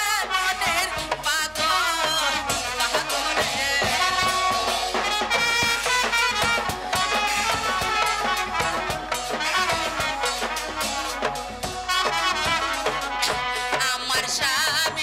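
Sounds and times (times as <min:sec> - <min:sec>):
steady drum strokes: 0:00.0 - 0:15.0
wind instrument melody: 0:00.0 - 0:15.0.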